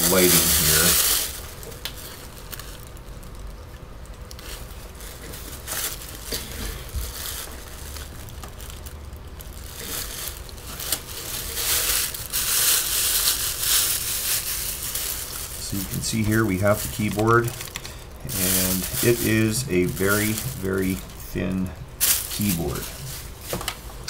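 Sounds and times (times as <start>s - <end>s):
paper packaging crinkling: 0.0s - 24.0s.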